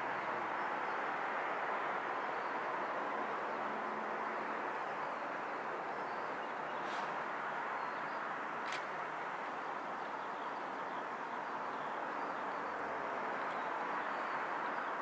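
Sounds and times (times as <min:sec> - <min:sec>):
distant jet engines at takeoff: 0:00.0 - 0:15.0.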